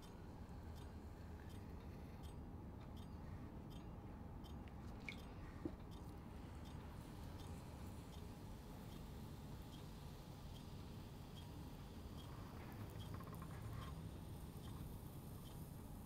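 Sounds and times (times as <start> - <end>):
faint regular ticks: 0.0 - 16.0.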